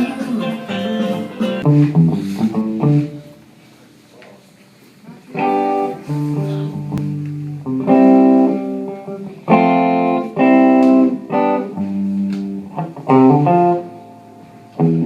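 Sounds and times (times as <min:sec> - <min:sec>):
guitar chords and notes: 0:00.0 - 0:03.5, 0:05.3 - 0:15.0.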